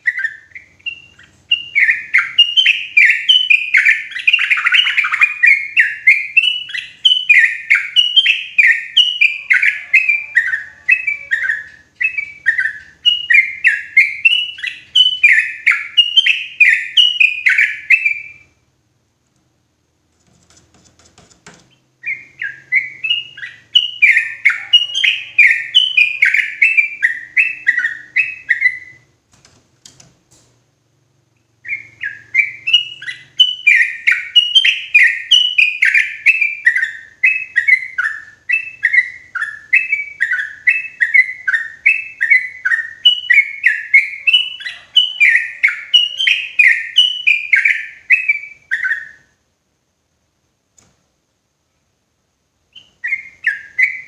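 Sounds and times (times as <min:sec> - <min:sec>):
bird singing chirping notes: 0:00.0 - 0:18.6, 0:21.7 - 0:29.2, 0:31.4 - 0:49.4, 0:52.7 - 0:54.0.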